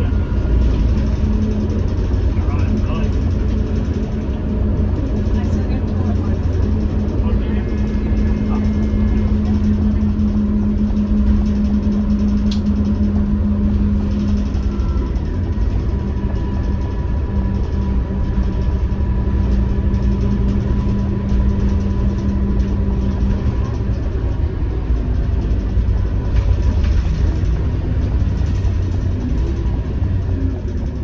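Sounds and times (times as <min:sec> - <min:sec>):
diesel engine drone: 0:00.0 - 0:31.0
steady hum: 0:00.0 - 0:31.0.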